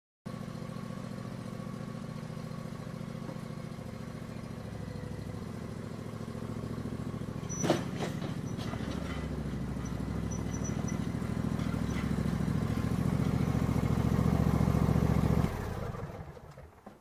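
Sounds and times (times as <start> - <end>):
lawn tractor engine running: 0.3 - 17.0.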